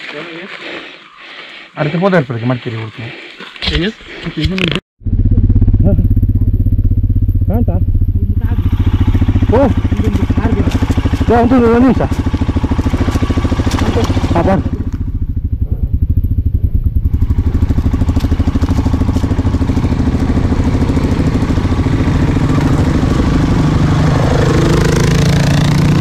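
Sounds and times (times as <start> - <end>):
motorcycle engine running: 5.0 - 26.0.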